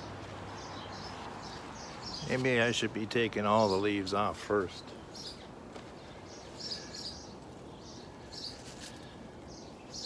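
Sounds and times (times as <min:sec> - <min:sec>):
faint outdoor air hiss: 0:00.0 - 0:10.0
small birds chirping: 0:00.0 - 0:10.0.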